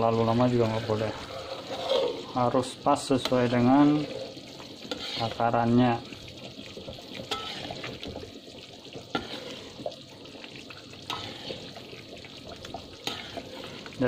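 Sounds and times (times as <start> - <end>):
sauce simmering hiss: 0.0 - 14.0
spatula stirring in metal pan: 0.0 - 14.0.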